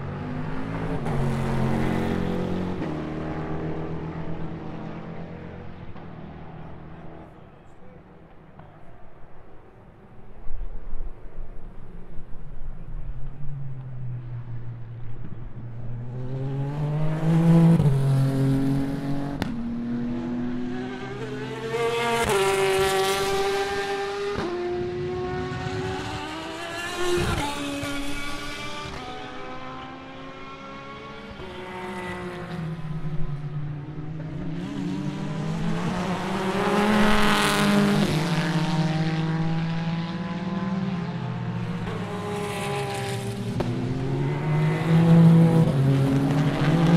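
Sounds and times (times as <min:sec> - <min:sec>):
race cars accelerating past: 0:00.0 - 0:07.7, 0:12.8 - 0:46.9.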